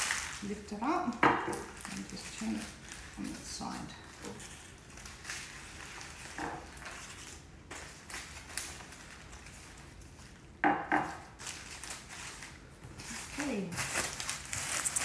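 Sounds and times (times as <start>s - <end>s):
baking paper rustling: 0.0s - 15.0s.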